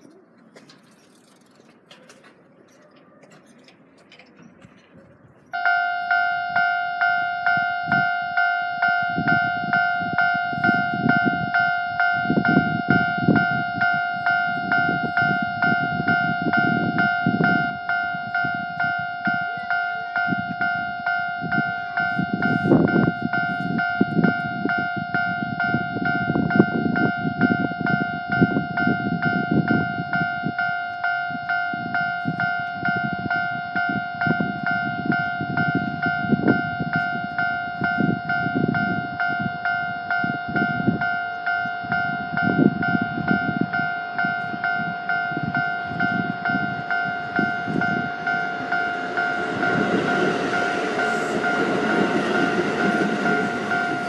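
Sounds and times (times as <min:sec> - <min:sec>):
low train rumble: 0:00.0 - 0:54.0
level-crossing warning bell: 0:02.0 - 0:54.0.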